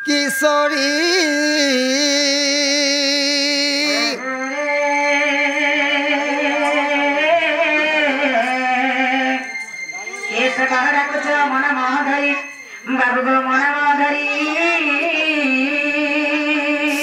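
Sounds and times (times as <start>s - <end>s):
man singing devotional line: 0.0s - 9.5s, 10.3s - 17.0s.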